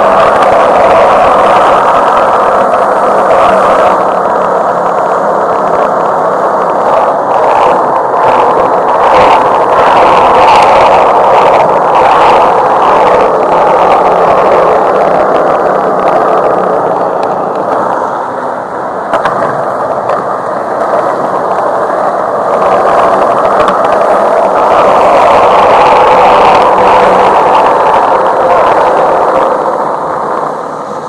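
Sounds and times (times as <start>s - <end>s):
skateboard wheels rolling on pavement: 0.0s - 31.0s.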